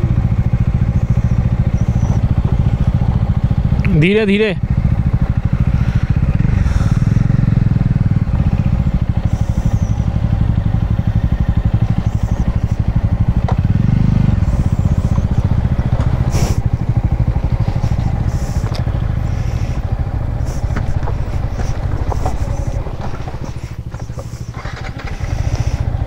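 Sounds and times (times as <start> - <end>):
motorcycle engine running at low revs: 0.0 - 26.0.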